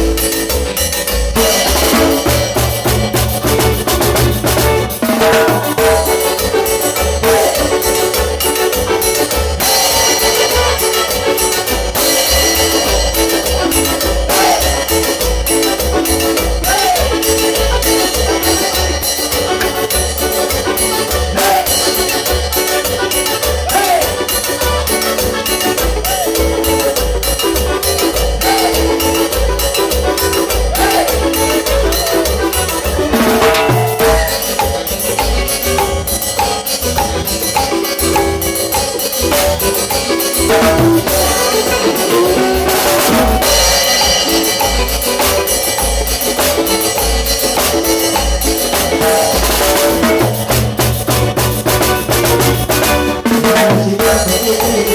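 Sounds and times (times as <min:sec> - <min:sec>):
latin band playing: 0:00.0 - 0:54.9.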